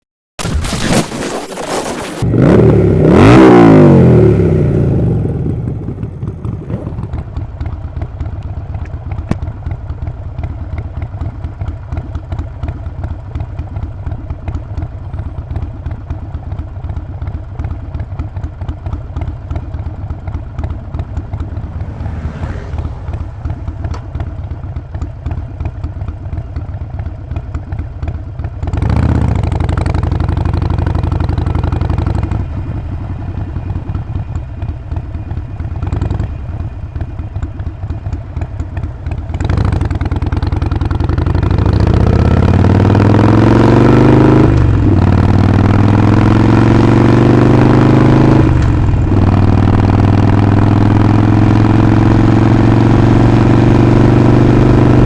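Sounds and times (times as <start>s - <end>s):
motorcycle engine revving and idling: 2.2s - 55.0s.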